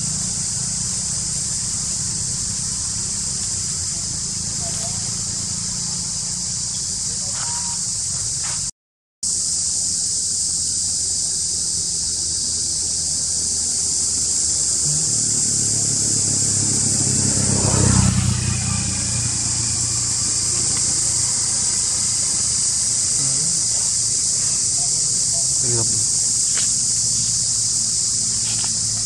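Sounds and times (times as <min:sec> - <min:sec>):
vehicle engine passing by: 0:00.0 - 0:08.6, 0:12.8 - 0:29.0
high-pitched insect chorus: 0:00.0 - 0:29.0.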